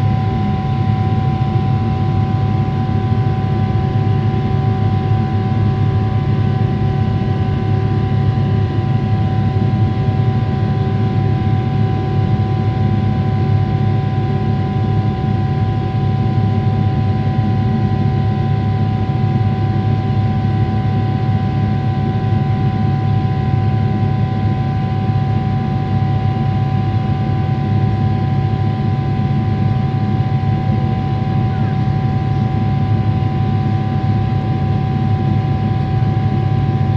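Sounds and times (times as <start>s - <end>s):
jet engine and airflow drone: 0.0s - 36.9s.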